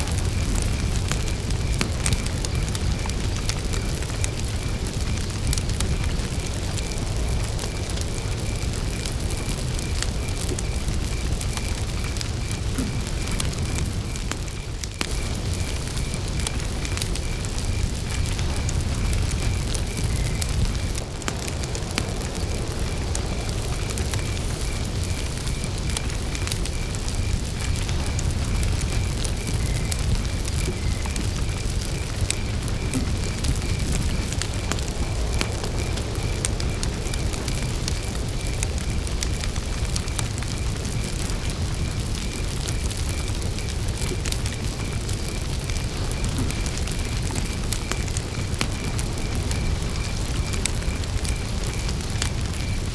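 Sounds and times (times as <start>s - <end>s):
campfire crackling: 0.0s - 52.9s
cricket chirping: 0.0s - 52.9s.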